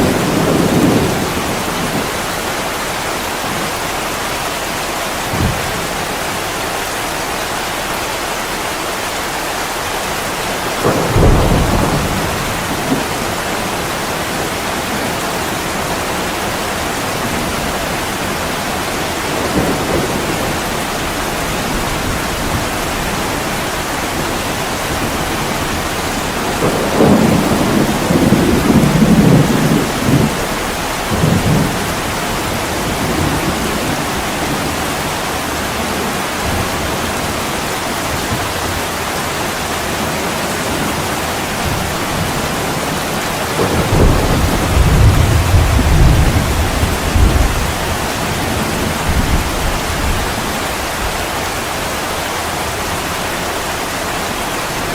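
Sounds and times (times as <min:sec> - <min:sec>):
rolling thunder: 0:00.0 - 0:04.0, 0:04.6 - 0:07.1, 0:10.4 - 0:51.8
heavy rain: 0:00.0 - 0:54.9.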